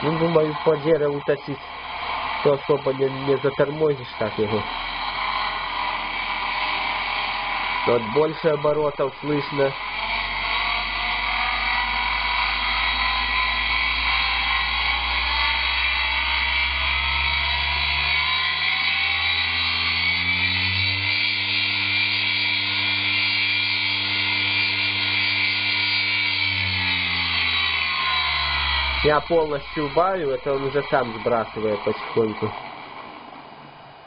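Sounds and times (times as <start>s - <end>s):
electric motor hum: 0.0s - 34.0s
high-pitched electrical whine: 0.0s - 34.0s.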